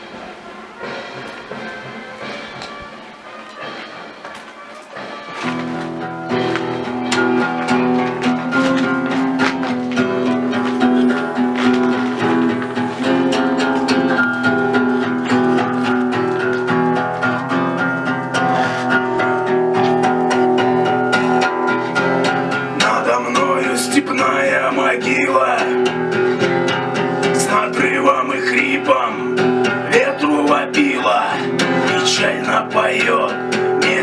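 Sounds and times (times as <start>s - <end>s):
instrumental guitar music: 5.4s - 34.0s.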